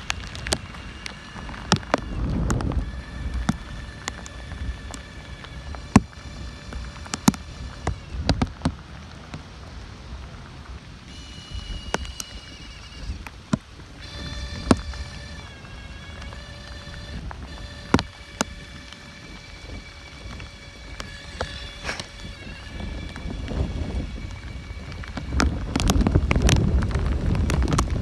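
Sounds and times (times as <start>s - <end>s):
faint steady tones: 0.0s - 28.0s
wind buffeting microphone: 0.0s - 28.0s.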